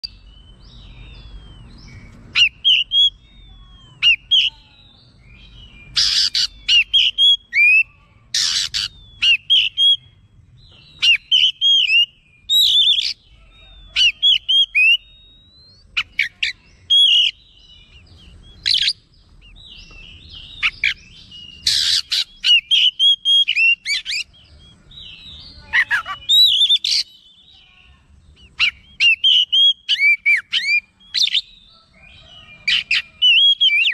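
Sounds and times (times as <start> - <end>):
bird singing whistled phrases: 0.0 - 33.9.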